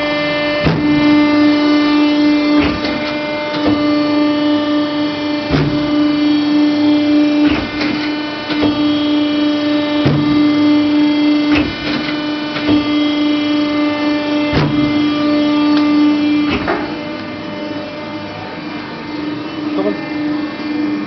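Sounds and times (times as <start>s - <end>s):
hydraulic pump humming: 0.0s - 21.0s.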